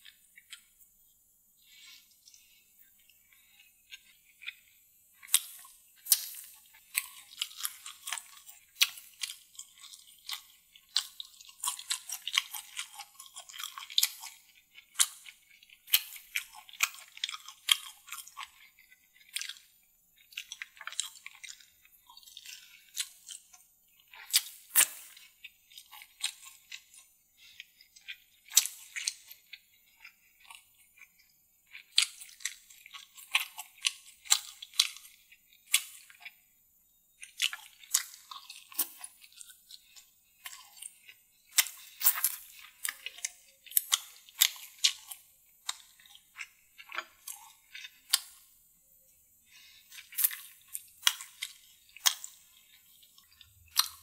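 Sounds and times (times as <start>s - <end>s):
person chewing and biting: 0.0s - 0.8s, 1.6s - 36.4s, 37.1s - 48.6s, 49.5s - 54.0s.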